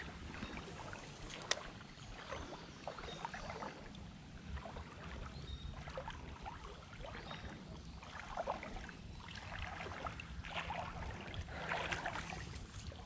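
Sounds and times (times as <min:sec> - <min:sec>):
water splashing around legs: 0:00.0 - 0:13.0.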